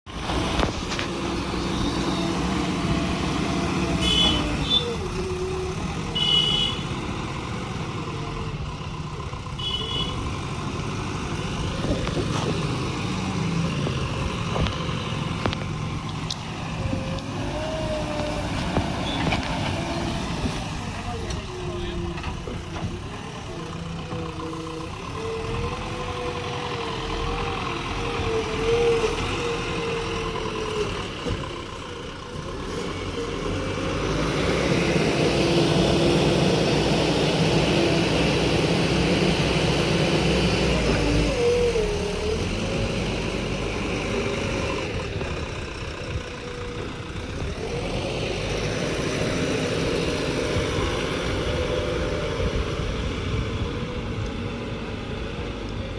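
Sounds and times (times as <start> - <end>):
diesel engine running: 0.1 - 55.9.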